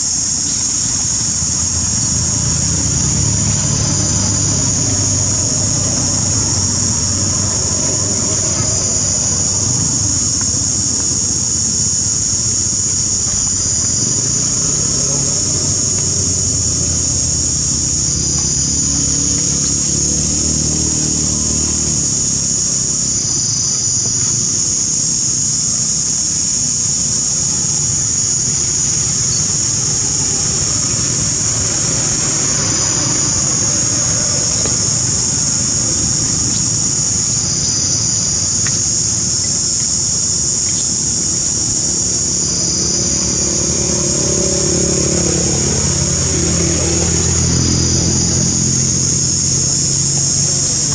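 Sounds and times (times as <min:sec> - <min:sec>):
insect chorus buzzing: 0:00.0 - 0:50.9
low engine hum: 0:01.2 - 0:24.4, 0:27.4 - 0:50.9.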